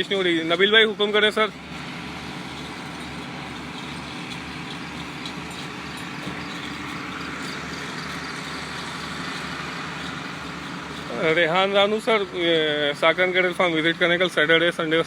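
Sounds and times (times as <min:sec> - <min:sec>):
mechanical drone: 0:00.0 - 0:15.0.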